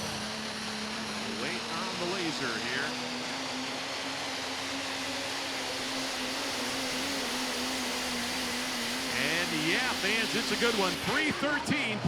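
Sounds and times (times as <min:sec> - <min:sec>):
engine idling hum: 0:00.0 - 0:11.9
outdoor noise: 0:00.0 - 0:12.0.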